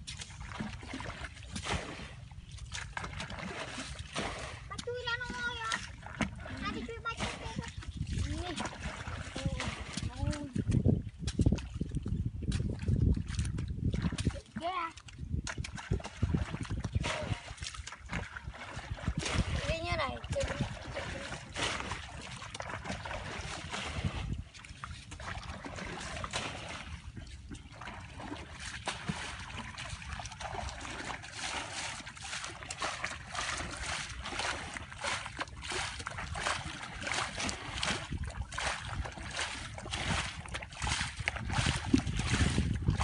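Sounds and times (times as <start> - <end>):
muddy water splashing: 0.0 - 43.0.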